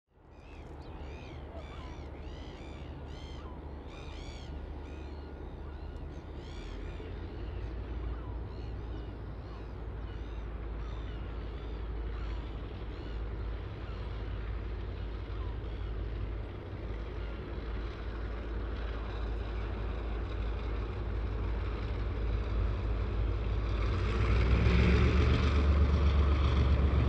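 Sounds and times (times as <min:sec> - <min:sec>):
steady low rumble: 0:00.2 - 0:24.0.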